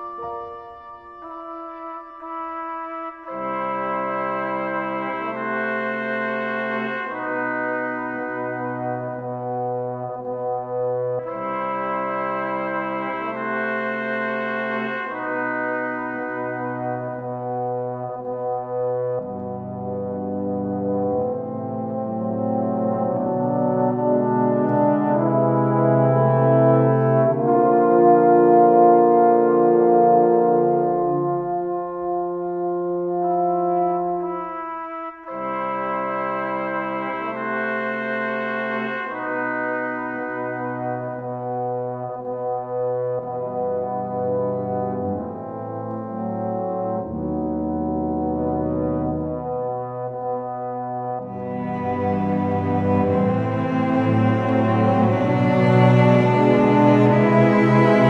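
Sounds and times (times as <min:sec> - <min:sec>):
sustained instrumental chords: 0:00.0 - 0:58.0.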